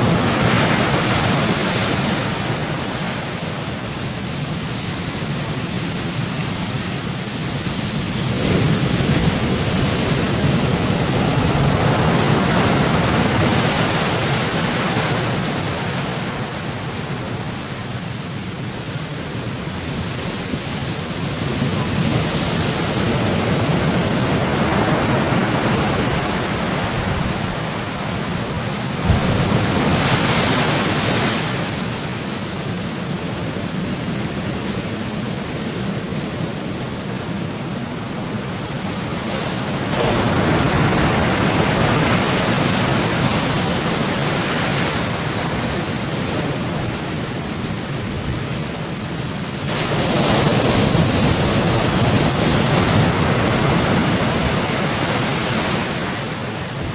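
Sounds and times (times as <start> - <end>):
sea waves breaking: 0.0 - 56.9
wind: 0.0 - 56.9.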